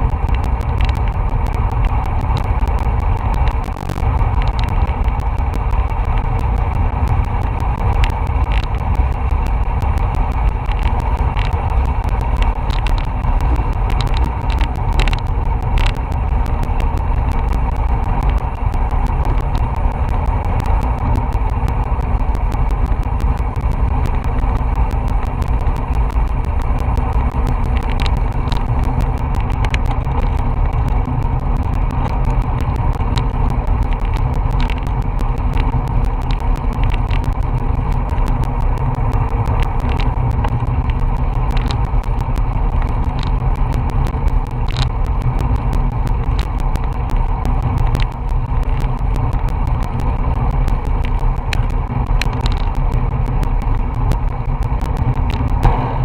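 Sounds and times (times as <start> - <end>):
small clicks: 0.0 - 55.7
road noise: 0.0 - 56.0
wind rush on microphone: 0.0 - 56.0.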